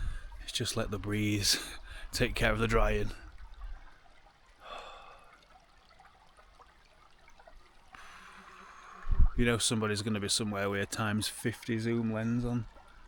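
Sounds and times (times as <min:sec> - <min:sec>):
faint river trickle: 0:00.0 - 0:13.0.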